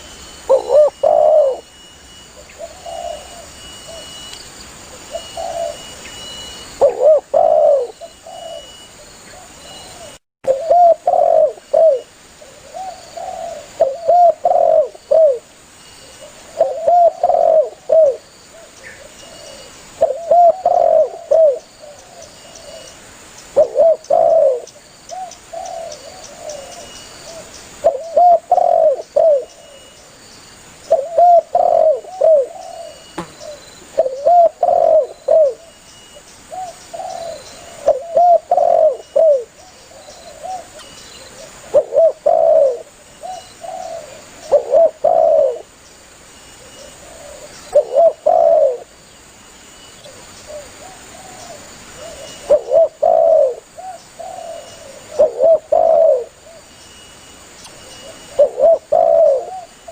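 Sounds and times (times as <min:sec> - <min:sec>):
dove cooing: 0:00.0 - 0:01.7, 0:02.3 - 0:04.2, 0:04.9 - 0:06.0, 0:06.6 - 0:15.5, 0:16.1 - 0:23.0, 0:23.6 - 0:29.9, 0:30.9 - 0:35.8, 0:36.5 - 0:45.7, 0:46.6 - 0:48.9, 0:50.0 - 0:56.7, 0:57.8 - 0:59.9.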